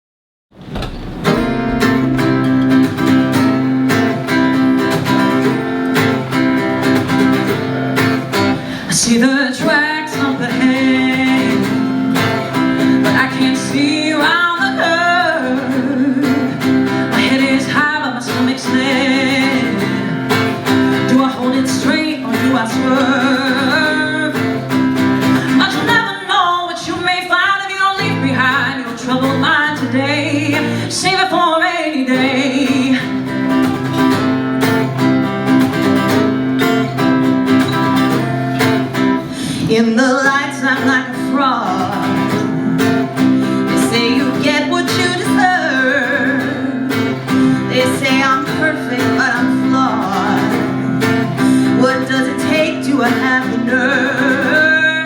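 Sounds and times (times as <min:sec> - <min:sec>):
plucked strummed accompaniment: 0:00.6 - 0:55.0
person singing: 0:01.4 - 0:34.0, 0:39.2 - 0:55.0.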